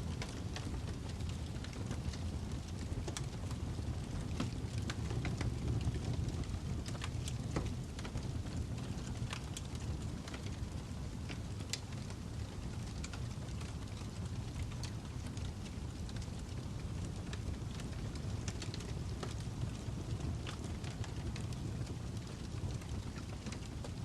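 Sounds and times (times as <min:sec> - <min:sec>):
logs burning in a fireplace: 0:00.0 - 0:24.0.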